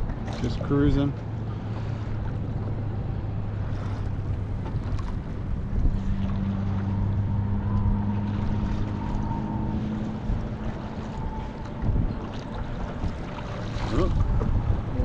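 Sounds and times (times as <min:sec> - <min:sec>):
strong wind buffeting microphone: 0:01.3 - 0:15.0.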